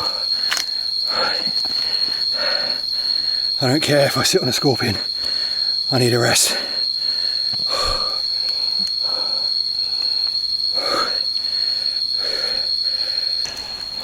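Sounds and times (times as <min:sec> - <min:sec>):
person breathing heavily: 0:00.0 - 0:03.6, 0:05.0 - 0:05.8, 0:06.5 - 0:14.0
insects droning: 0:00.0 - 0:14.0.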